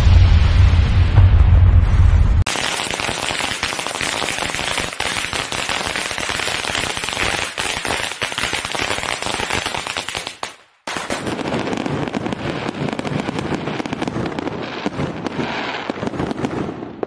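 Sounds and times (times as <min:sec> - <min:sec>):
firecrackers crackling: 0:02.4 - 0:17.0.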